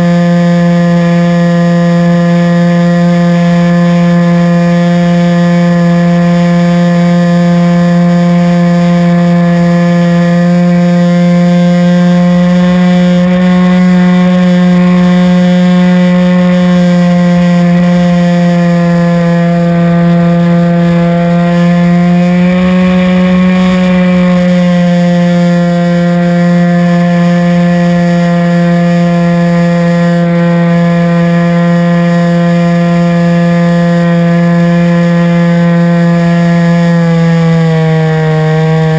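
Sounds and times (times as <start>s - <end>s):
model airplane motor droning: 0.0s - 38.9s.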